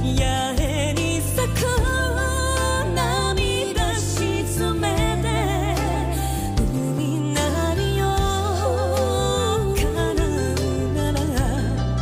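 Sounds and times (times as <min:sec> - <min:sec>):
sustained low bass notes: 0:00.0 - 0:12.0
woman singing with vibrato: 0:00.0 - 0:12.0.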